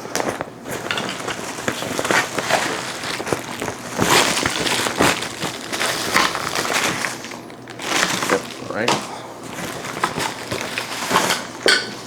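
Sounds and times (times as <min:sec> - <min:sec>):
packaging rustling and crackling: 0:00.0 - 0:12.0.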